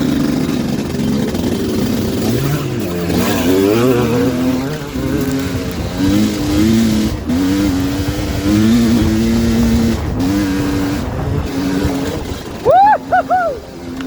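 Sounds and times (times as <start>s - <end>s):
dirt bike engine running hard: 0.0s - 14.0s.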